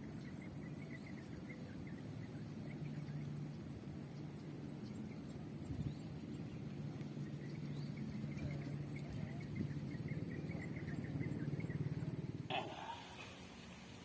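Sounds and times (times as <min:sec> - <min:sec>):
pulsing low hum: 0:00.0 - 0:14.0.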